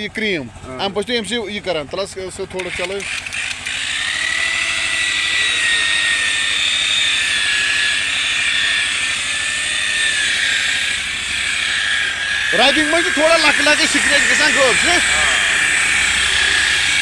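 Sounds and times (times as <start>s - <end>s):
electric polisher whining: 2.6s - 17.0s.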